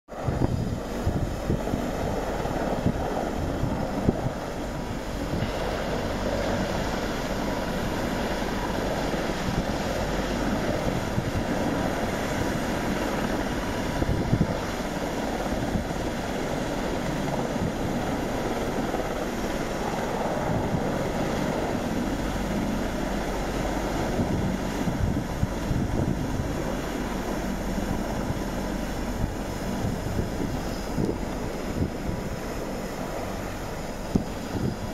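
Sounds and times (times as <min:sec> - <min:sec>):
helicopter rotors and turbines: 0:00.1 - 0:34.9
wind buffeting microphone: 0:00.1 - 0:34.9.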